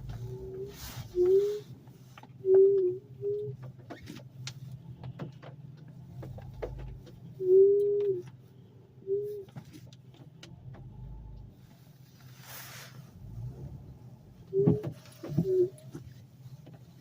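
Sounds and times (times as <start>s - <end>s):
brake squealing: 0.0s - 17.0s
car low hum: 0.0s - 17.0s.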